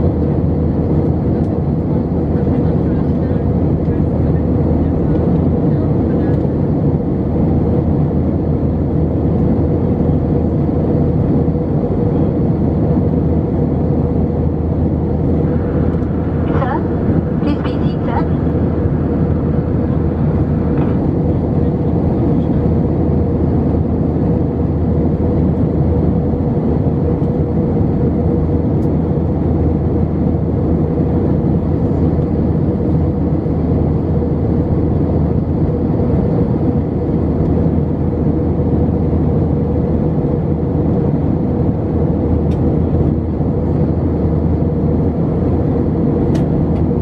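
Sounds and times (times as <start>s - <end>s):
constant hum: 0.0s - 47.0s
engine and airflow noise: 0.0s - 47.0s.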